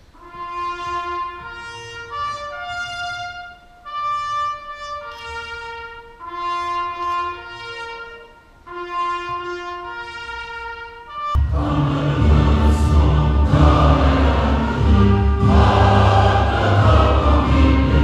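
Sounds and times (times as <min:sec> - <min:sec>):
solo trumpet slow melody: 0:00.0 - 0:18.0.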